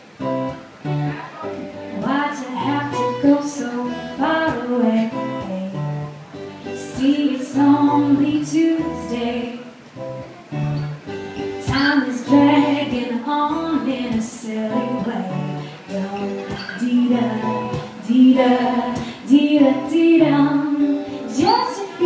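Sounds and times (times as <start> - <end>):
acoustic guitar: 0.0 - 22.0
woman singing into a microphone: 1.9 - 9.8, 11.6 - 22.0.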